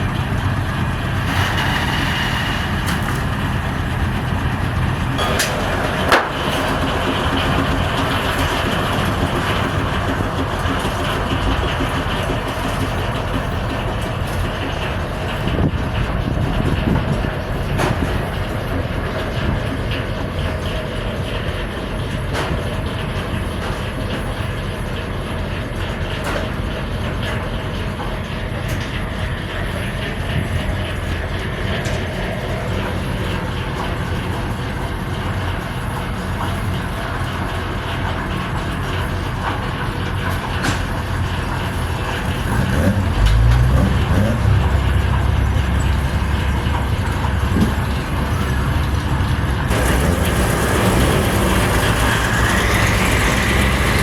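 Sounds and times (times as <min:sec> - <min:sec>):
sawmill machinery engine drone: 0:00.0 - 0:54.0.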